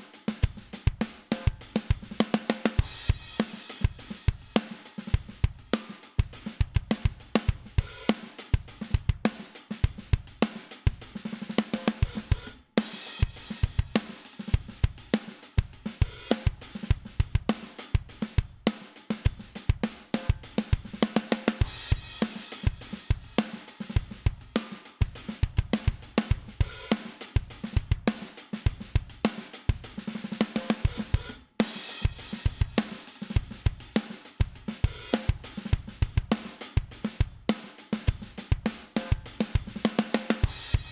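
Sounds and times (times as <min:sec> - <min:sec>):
acoustic drum kit groove: 0:00.0 - 0:40.9.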